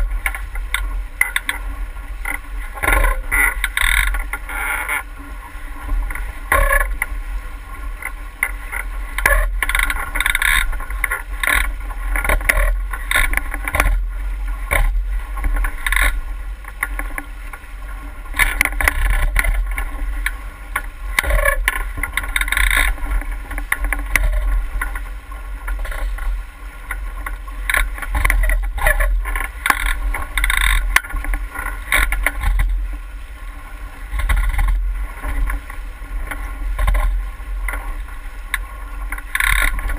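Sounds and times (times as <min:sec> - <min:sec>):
boat engine low rumble: 0:00.0 - 0:39.9
water splashes and hull slaps: 0:00.0 - 0:39.9.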